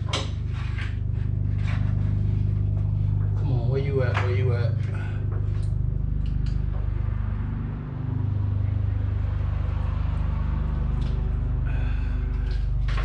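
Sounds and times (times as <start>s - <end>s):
machine low rumble: 0.0s - 13.0s.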